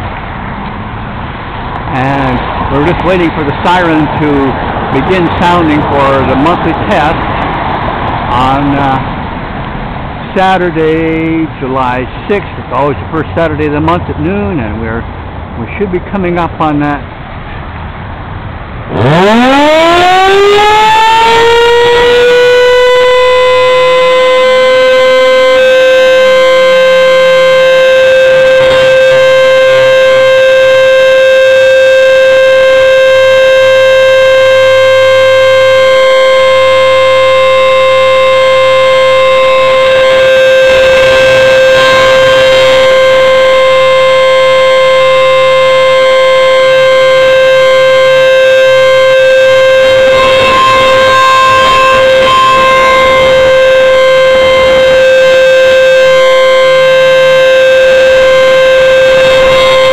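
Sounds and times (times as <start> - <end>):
warning siren steady tone: 1.8 - 9.2, 18.8 - 59.9.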